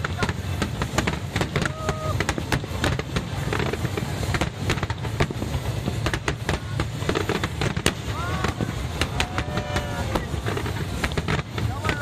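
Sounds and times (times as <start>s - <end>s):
firework whistle: 0.0s - 12.0s
fireworks bangs and crackles: 0.0s - 12.0s.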